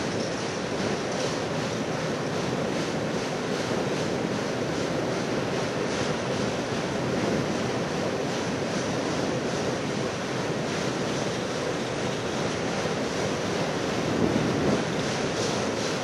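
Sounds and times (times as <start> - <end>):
train cars rolling over bridge: 0.0 - 16.0.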